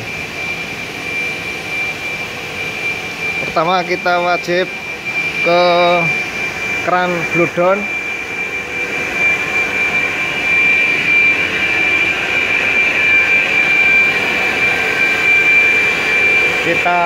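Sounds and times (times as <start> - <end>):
constant high whine: 0.0 - 17.0
machinery rushing noise: 0.0 - 17.0.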